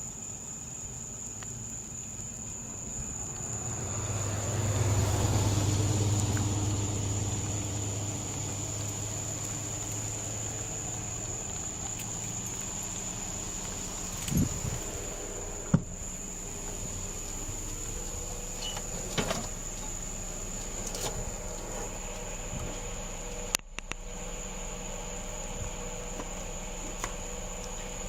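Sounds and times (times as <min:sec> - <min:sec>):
vehicle rumble passing: 0:01.9 - 0:28.0.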